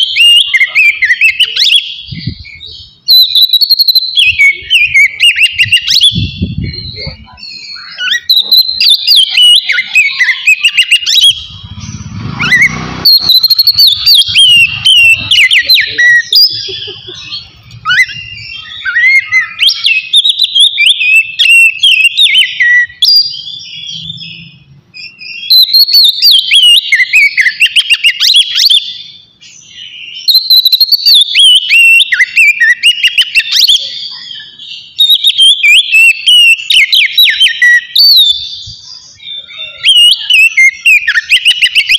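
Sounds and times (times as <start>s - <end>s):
magpie-robin singing: 0.0s - 41.9s.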